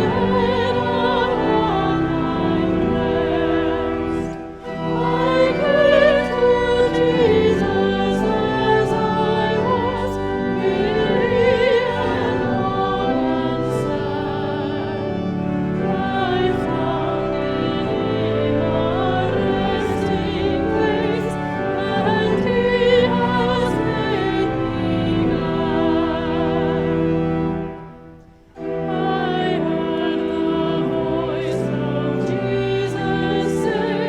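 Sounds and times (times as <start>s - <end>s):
classical singing with vibrato: 0.0s - 34.0s
sustained instrumental accompaniment: 0.0s - 34.0s.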